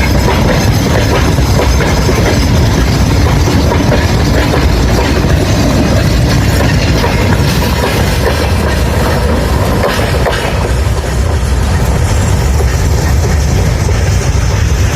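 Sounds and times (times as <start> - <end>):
train wheels clattering over rails: 0.0 - 14.9.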